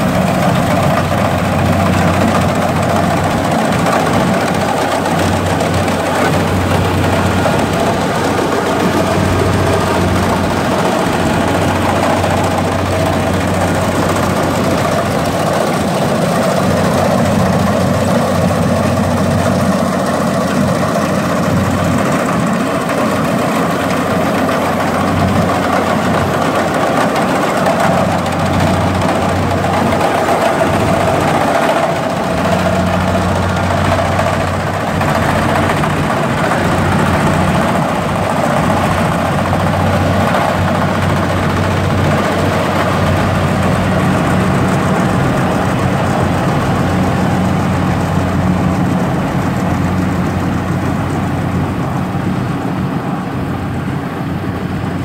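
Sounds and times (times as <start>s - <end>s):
harvester engine hum: 0.0s - 55.0s
machinery whine: 0.0s - 55.0s.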